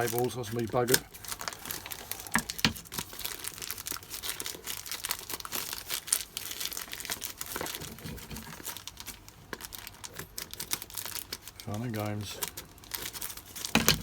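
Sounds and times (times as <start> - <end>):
plastic packaging crinkling and tearing: 0.0 - 14.0.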